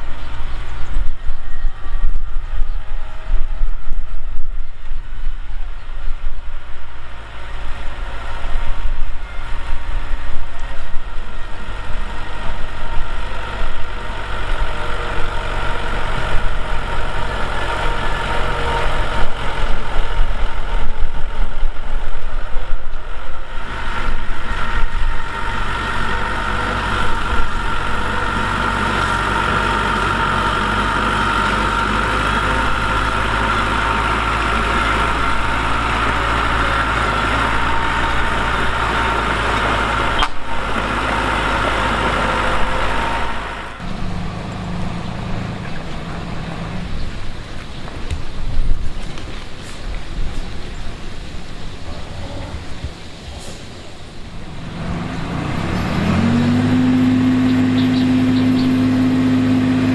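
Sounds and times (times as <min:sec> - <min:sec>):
diesel machine engine running: 0:00.0 - 0:59.9
high whine: 0:00.0 - 0:59.9.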